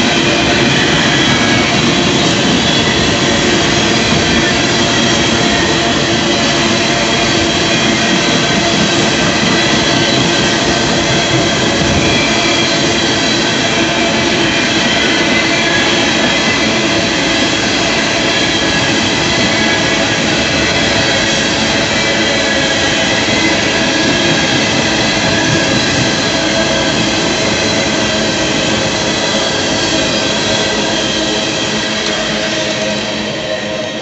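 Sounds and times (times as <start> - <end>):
high-pitched wheel squeal: 0.0 - 34.0
steel wheels roaring on rail: 0.0 - 34.0.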